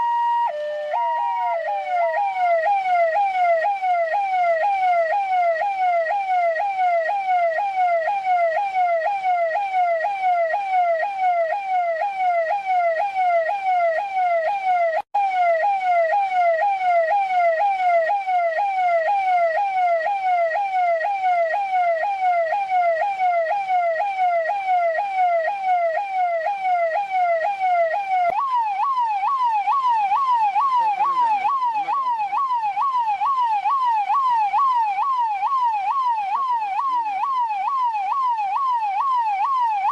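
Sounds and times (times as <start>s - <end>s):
electronic police siren yelping: 0.0s - 39.9s.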